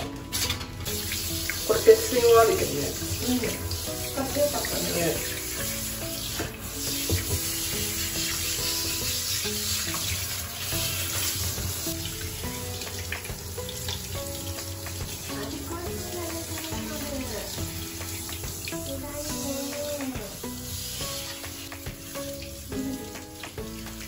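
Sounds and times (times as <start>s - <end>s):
light background music: 0.0s - 24.0s
water spraying from shower head: 0.0s - 24.0s.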